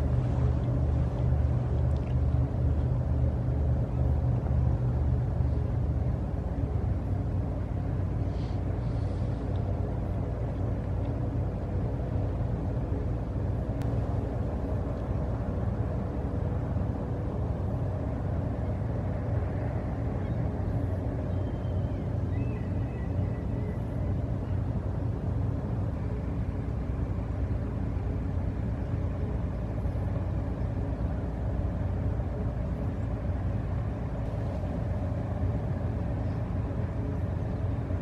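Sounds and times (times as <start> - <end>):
boat diesel engines rumbling: 0.0 - 38.0.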